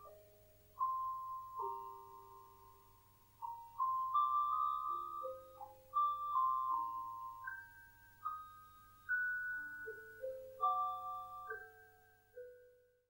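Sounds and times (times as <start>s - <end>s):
computer demo music melody: 0.0s - 13.0s.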